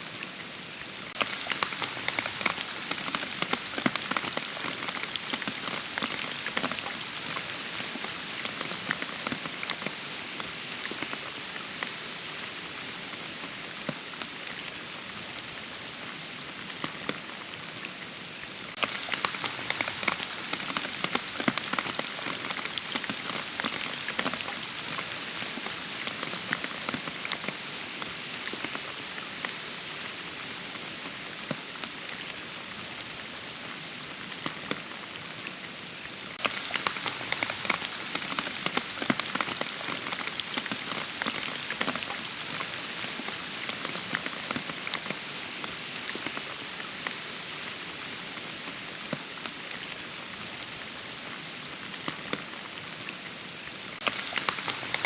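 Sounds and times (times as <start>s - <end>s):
hiss of downpour: 0.0s - 55.0s
raindrops striking close by: 0.0s - 55.0s.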